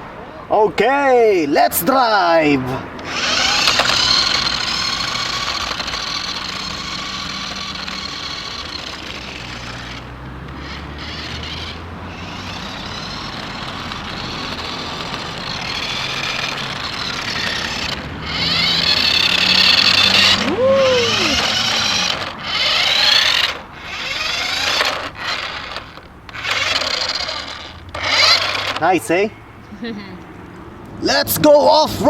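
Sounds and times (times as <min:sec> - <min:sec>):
toy car electric motor whining: 0:01.9 - 0:29.3.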